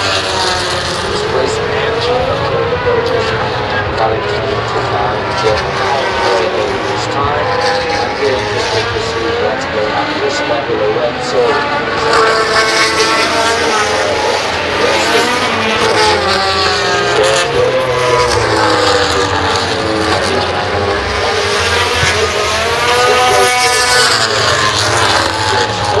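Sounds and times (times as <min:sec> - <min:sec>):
race motorcycles passing at speed: 0:00.0 - 0:26.0.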